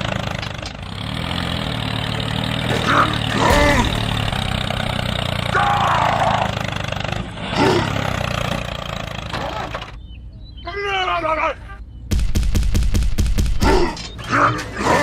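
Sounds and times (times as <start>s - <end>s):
tractor engine running: 0.0s - 10.6s, 11.8s - 15.0s.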